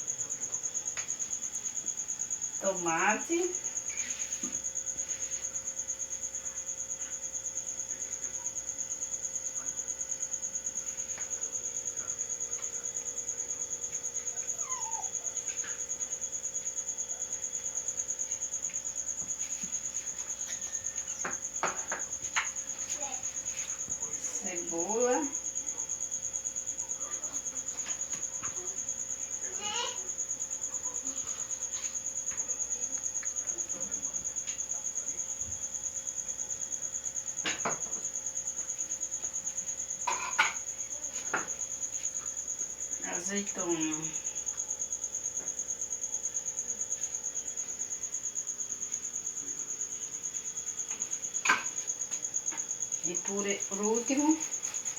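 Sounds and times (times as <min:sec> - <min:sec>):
cricket chirping: 0:00.0 - 0:54.9.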